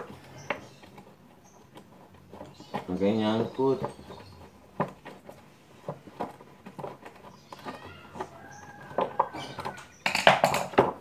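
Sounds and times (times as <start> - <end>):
parts clicking and knocking: 0.0 - 11.0.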